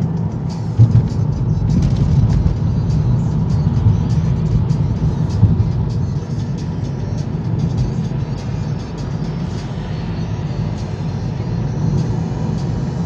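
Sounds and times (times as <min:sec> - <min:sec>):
car engine and road rumble: 0:00.0 - 0:13.0
music playing: 0:00.0 - 0:13.0.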